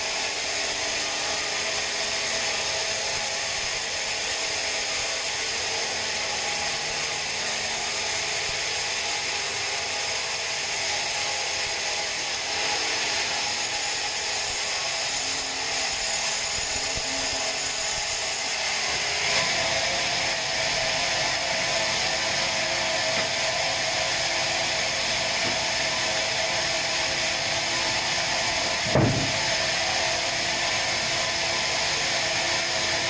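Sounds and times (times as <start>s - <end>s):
bandsaw cutting log: 0.0s - 33.0s.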